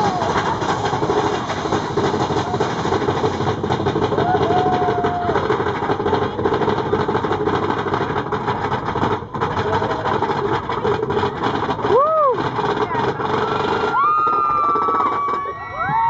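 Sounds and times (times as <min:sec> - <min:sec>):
roller coaster rumble and rattle: 0:00.0 - 0:16.0.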